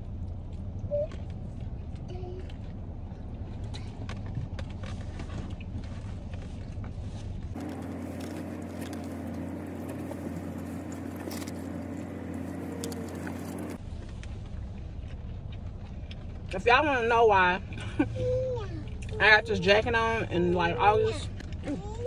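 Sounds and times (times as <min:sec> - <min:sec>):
low hum in a car cabin: 0:00.0 - 0:22.0
chewing: 0:00.1 - 0:06.9, 0:07.5 - 0:16.6, 0:17.6 - 0:19.2, 0:21.0 - 0:22.0.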